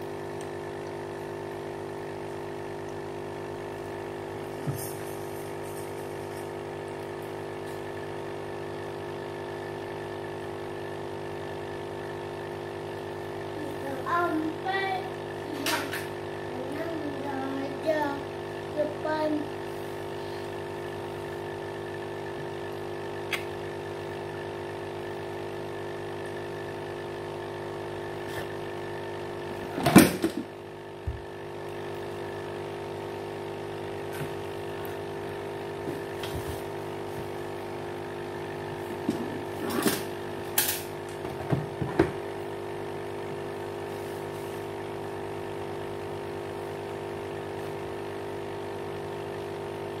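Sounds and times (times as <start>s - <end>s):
aquarium pump humming: 0.0s - 50.0s.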